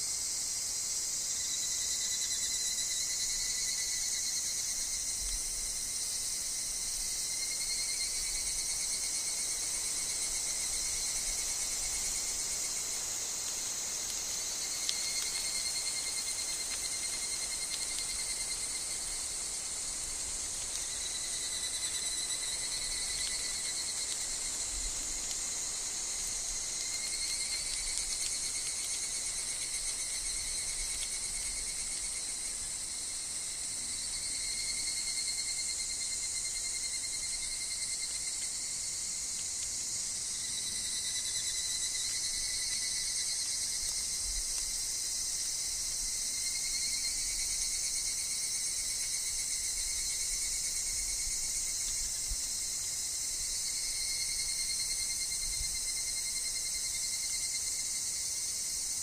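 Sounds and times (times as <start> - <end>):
cicadas and insects trilling: 0.0 - 59.0.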